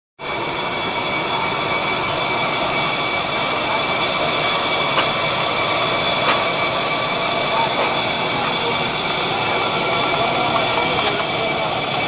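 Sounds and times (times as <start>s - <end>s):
thin high whine: 0.2s - 12.0s.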